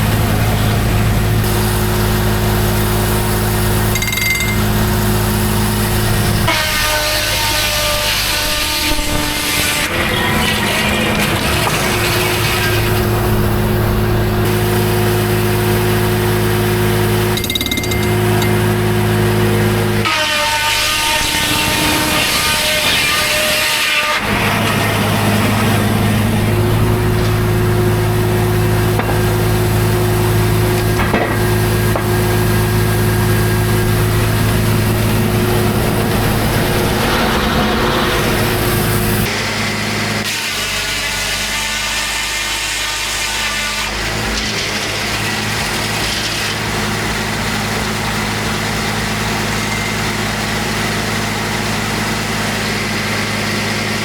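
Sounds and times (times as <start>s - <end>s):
circular saw cutting log: 0.0s - 54.0s.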